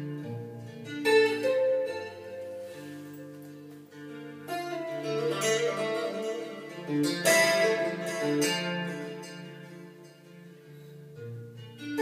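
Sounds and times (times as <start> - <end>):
plucked strings music from speakers: 0.0 - 12.0.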